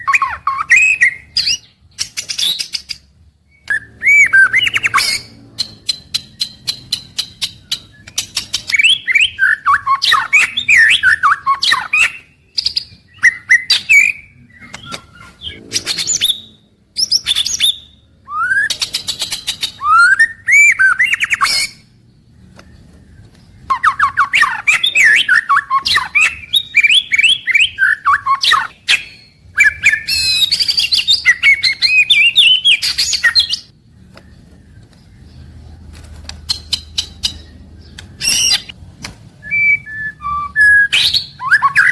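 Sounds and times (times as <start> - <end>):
bird singing whistled phrases: 0.0 - 2.9, 3.5 - 21.8, 23.7 - 33.7, 37.2 - 38.8, 39.4 - 41.9.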